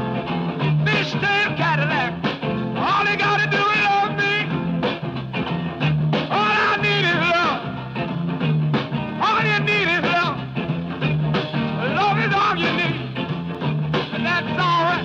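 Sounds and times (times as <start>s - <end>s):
rhythm and blues rock band: 0.0s - 15.0s
wavering lead guitar line: 0.0s - 15.0s.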